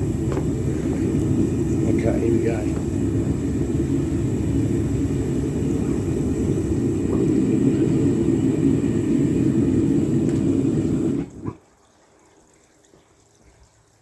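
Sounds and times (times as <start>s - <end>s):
furnace burner rumbling: 0.0s - 11.7s.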